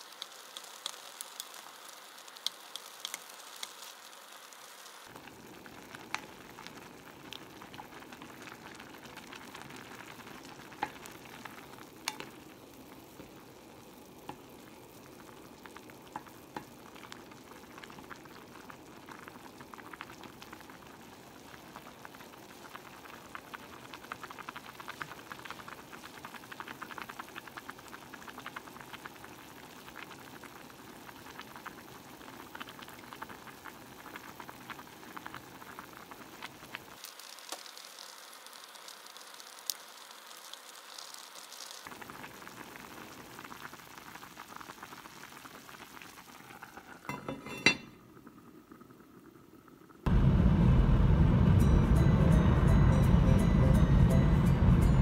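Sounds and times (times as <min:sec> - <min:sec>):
stew bubbling in a pot: 0:00.0 - 0:50.2.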